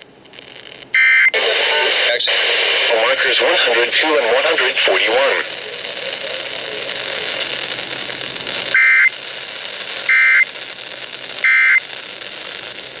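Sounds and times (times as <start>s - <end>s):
radio static: 1.0s - 13.0s.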